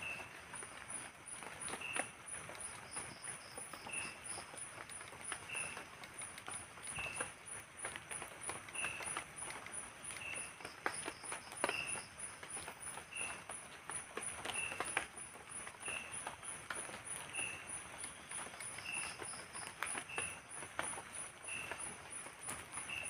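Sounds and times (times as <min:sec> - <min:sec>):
light taps and drips: 0:00.0 - 0:23.0.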